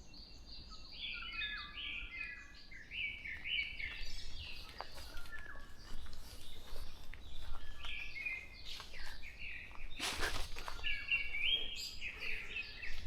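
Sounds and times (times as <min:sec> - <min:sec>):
forest birds chirping and warbling: 0:00.0 - 0:13.0.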